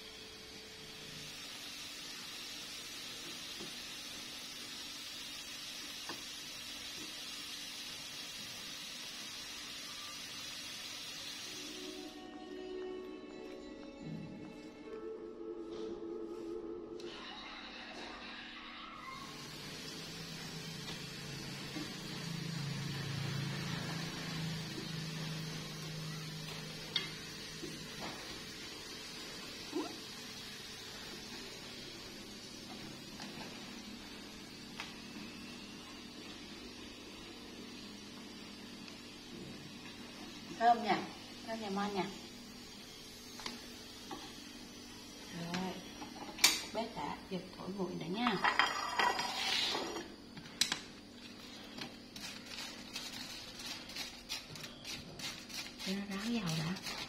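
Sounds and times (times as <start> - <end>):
fries sizzling in hot oil: 0.0 - 12.3, 17.1 - 57.0.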